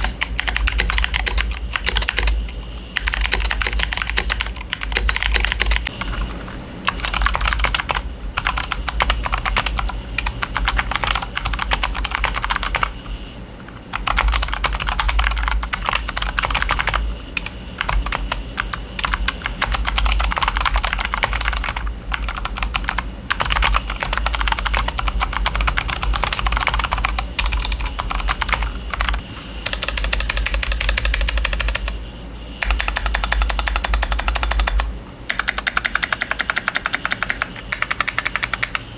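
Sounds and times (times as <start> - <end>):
clicky mechanical keyboard typing: 0.0 - 13.0, 13.7 - 32.0, 32.6 - 38.9.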